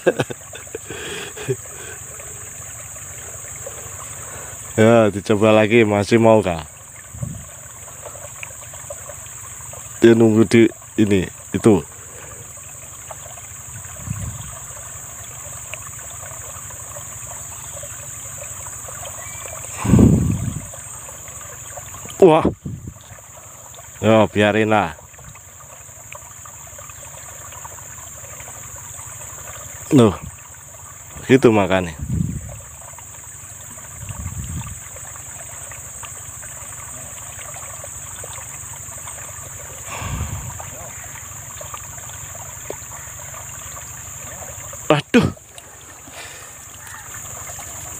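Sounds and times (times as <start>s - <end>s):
constant high hiss: 0.0s - 47.9s
high insect drone: 0.0s - 47.9s
stream running water: 0.0s - 47.9s.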